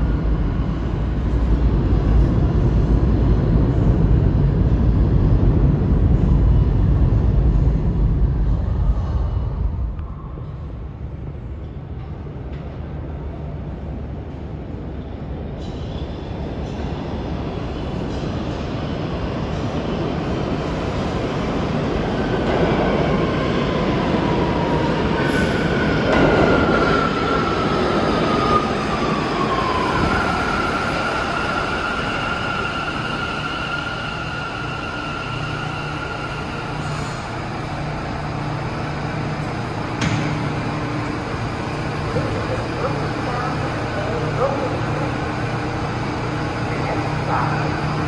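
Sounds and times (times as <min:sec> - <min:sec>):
train wheels rumbling on rails: 0:00.0 - 0:48.0
high train tones: 0:08.4 - 0:48.0.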